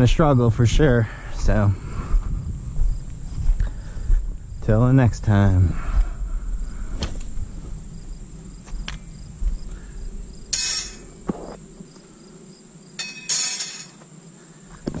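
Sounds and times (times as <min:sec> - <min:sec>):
faint pulsing cricket chirp: 0:00.0 - 0:15.0
insects buzzing: 0:00.0 - 0:15.0.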